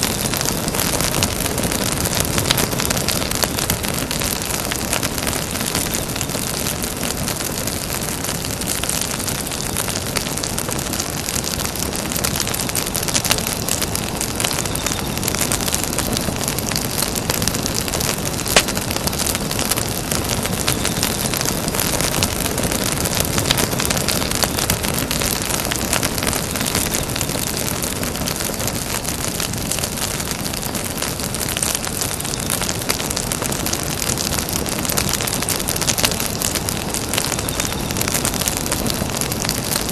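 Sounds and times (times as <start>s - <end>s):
burning wood crackling and popping: 0.0s - 39.9s
flames hissing: 0.0s - 39.9s.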